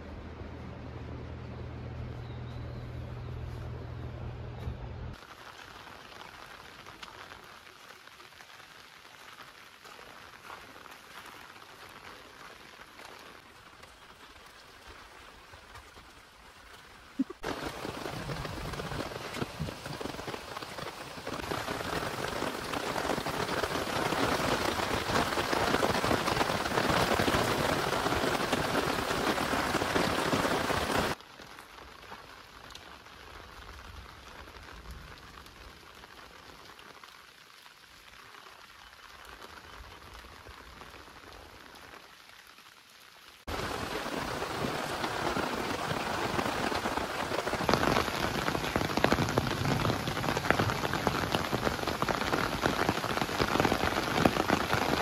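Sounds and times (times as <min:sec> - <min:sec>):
steady rain falling: 0:05.1 - 0:55.0.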